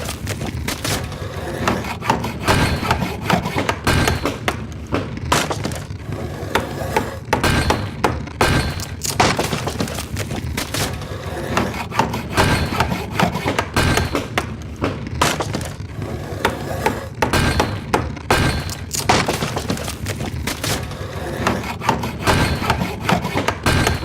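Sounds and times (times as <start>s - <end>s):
continuous machine rumble: 0.0s - 24.0s
wooden knocks and cracks: 0.0s - 24.0s.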